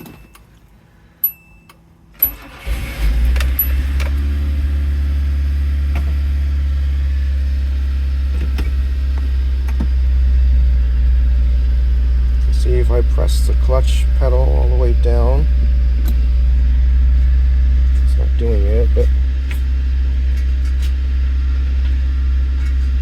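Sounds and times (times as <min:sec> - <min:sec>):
car engine cranking: 0:01.7 - 0:23.0
car engine idling: 0:02.1 - 0:23.0.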